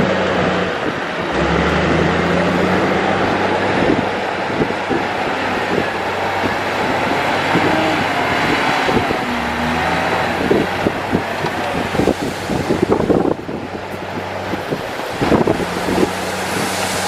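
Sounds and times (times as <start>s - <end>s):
bulldozer diesel engine rumbling: 0.0s - 17.0s
track clanks and knocks: 0.7s - 17.0s.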